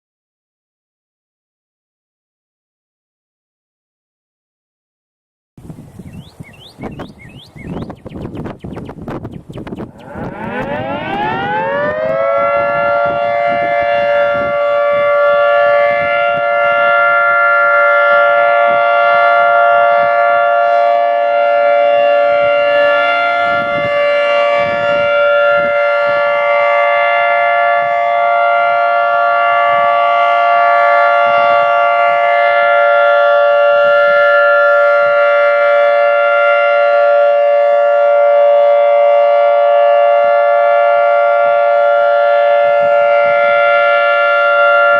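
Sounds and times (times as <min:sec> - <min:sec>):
warning siren spinning up: 0:06.2 - 0:44.9.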